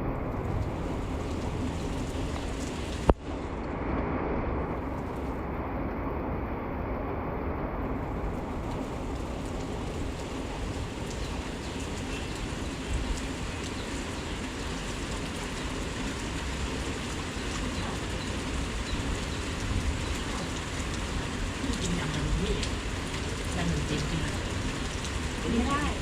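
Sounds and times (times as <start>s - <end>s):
deep rumble: 0.0s - 26.0s
heavy rain falling: 0.0s - 26.0s.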